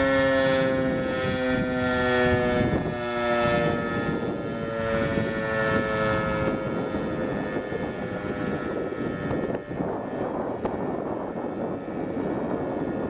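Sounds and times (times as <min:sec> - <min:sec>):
warning siren winding down: 0:00.0 - 0:13.0
wind noise on microphone: 0:00.0 - 0:13.0.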